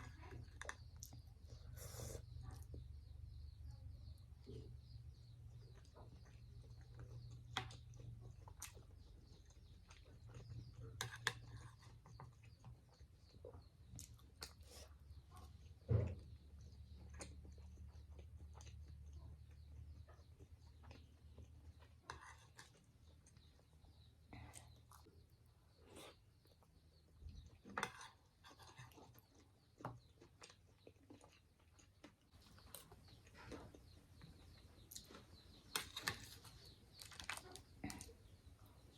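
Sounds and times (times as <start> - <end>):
soft chewing: 0.0 - 38.9.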